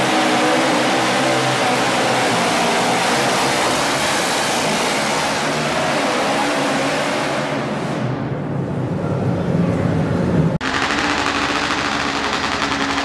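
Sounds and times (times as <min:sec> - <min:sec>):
loud rough tractor engines: 0:00.0 - 0:08.0, 0:10.4 - 0:13.0.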